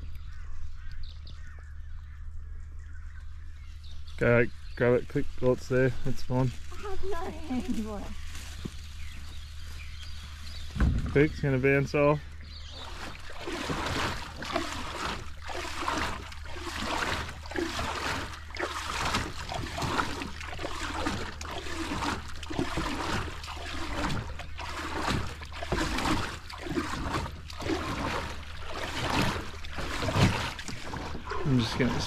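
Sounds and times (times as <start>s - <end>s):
low steady rumble: 0.0s - 32.0s
oars splashing water: 3.3s - 32.0s.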